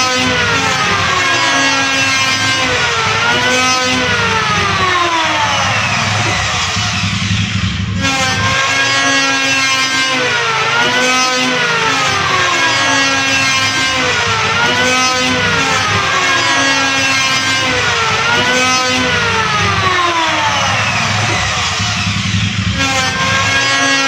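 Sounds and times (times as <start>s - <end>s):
electric wood planer whining: 0.0s - 24.0s.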